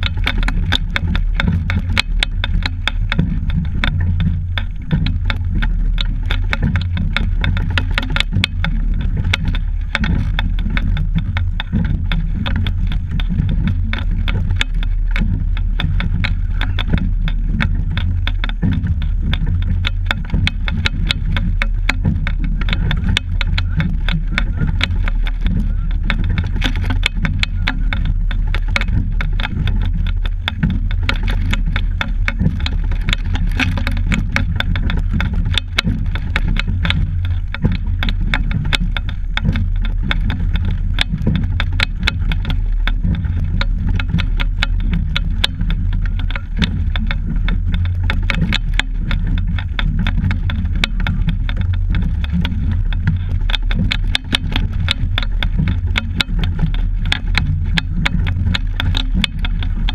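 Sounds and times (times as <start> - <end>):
irregular rattling and clicking: 0.0 - 59.9
low rumble: 0.0 - 59.9.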